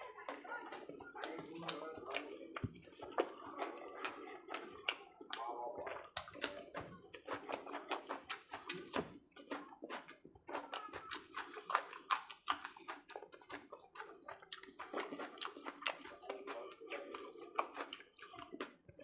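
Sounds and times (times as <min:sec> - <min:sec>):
wet chewing and lip smacking: 0:00.0 - 0:19.0.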